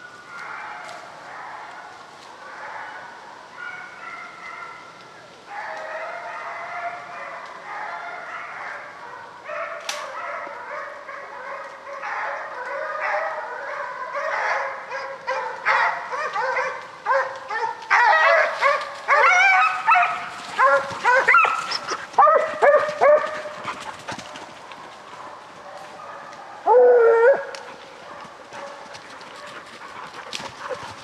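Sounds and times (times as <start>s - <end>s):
hounds baying and barking: 0.2s - 31.0s.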